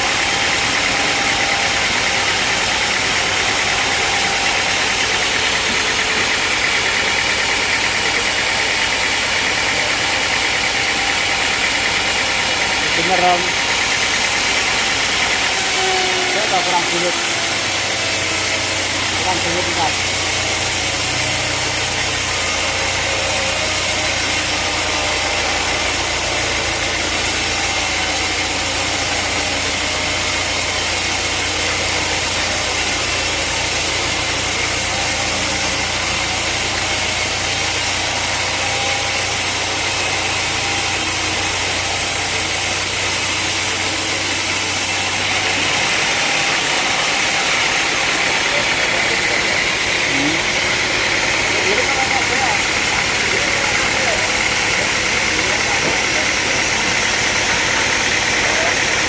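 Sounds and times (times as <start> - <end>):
sawmill engine droning: 0.0 - 59.0.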